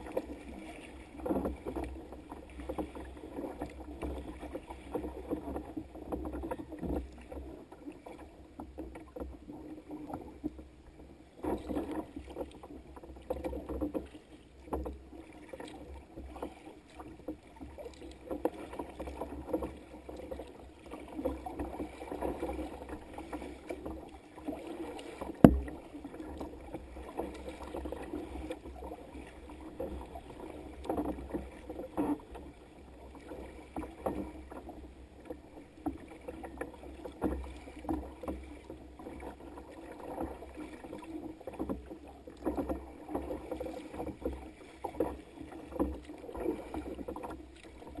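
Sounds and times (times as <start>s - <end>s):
water sloshing against kayak hull: 0.0s - 48.0s.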